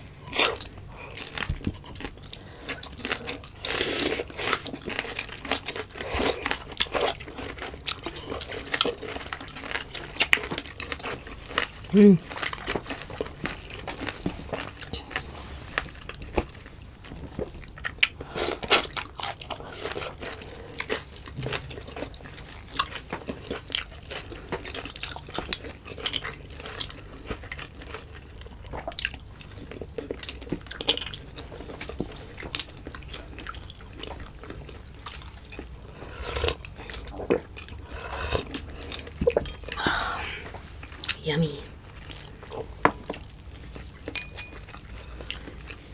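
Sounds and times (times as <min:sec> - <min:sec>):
chewing and mouth smacking: 0:00.2 - 0:45.9.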